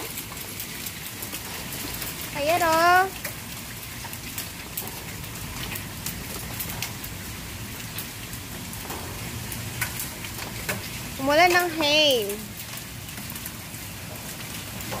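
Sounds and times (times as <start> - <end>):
hail ticking on concrete: 0.0 - 15.0
rain hissing: 0.0 - 15.0.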